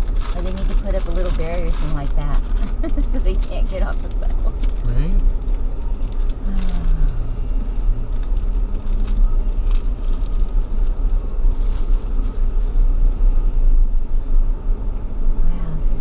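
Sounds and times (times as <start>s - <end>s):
car engine and road noise in cabin: 0.0s - 16.0s.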